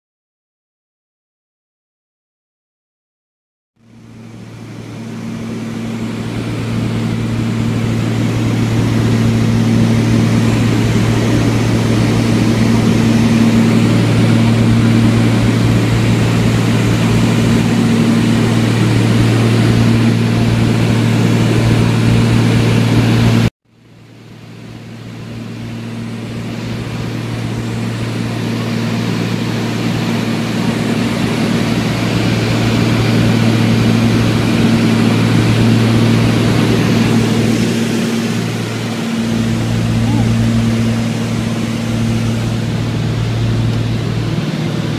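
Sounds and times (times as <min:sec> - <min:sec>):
propeller airplane engine drone: 0:03.8 - 0:44.9.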